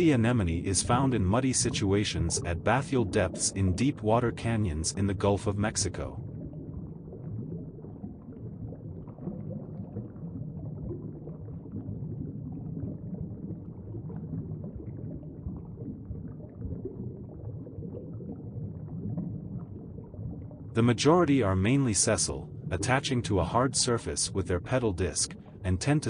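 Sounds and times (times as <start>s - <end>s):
underwater rumble: 0.0s - 26.0s.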